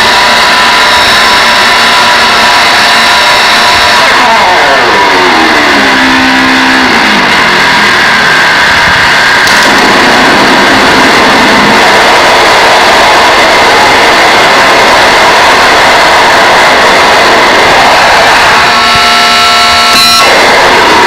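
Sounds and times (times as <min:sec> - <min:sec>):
harsh distorted noise music: 0:00.0 - 0:21.0
pitched tones sliding downward: 0:00.0 - 0:21.0.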